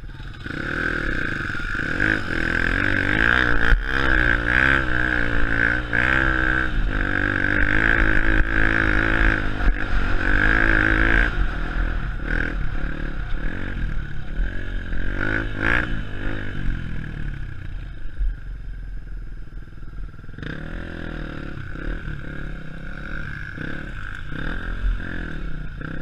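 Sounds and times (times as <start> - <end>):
dirt bike engine revving: 0.0 - 17.7, 20.2 - 26.0.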